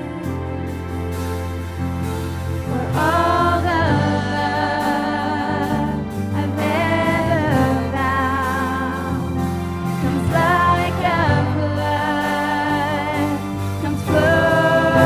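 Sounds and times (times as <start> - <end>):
worship band playing gospel song: 0.0 - 15.0.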